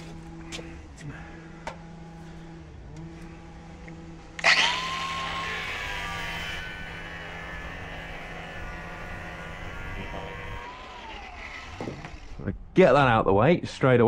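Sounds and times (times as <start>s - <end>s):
power tool whining: 0.0s - 12.8s
low steady hum: 0.0s - 14.0s.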